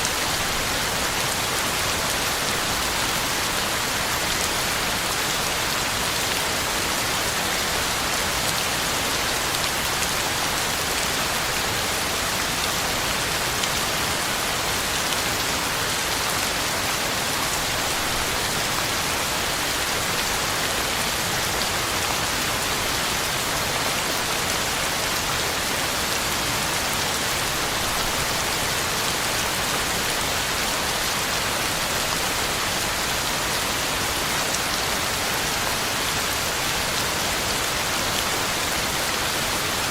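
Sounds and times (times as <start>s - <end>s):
heavy rain on ground and leaves: 0.0s - 39.9s.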